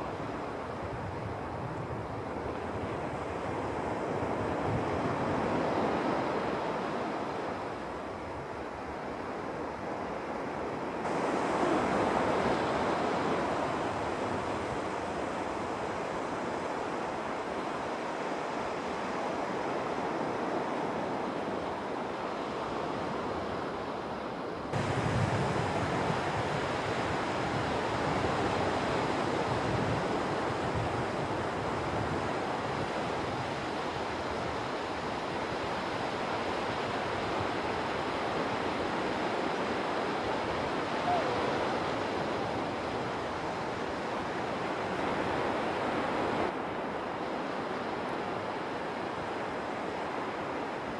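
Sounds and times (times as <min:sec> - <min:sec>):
wind on microphone: 0:00.0 - 0:21.4, 0:24.7 - 0:46.9
waves washing up beach: 0:00.0 - 0:50.9.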